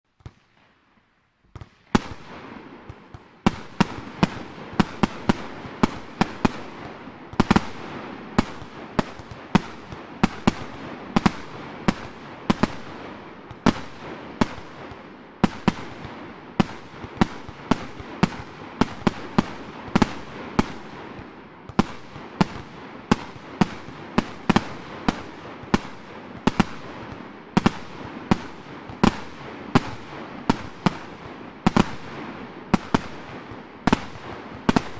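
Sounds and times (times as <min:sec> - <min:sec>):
continuous fireworks hiss: 0:00.1 - 0:34.9
fireworks bangs: 0:01.5 - 0:34.9.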